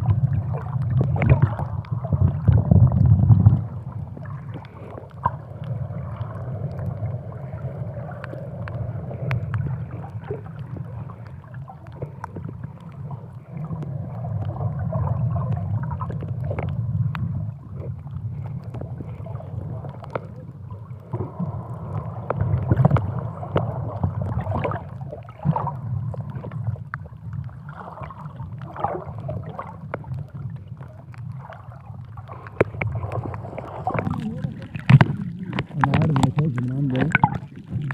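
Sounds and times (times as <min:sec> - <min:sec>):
underwater clicks and gurgles: 0:00.0 - 0:37.9
underwater rumble: 0:00.0 - 0:37.9.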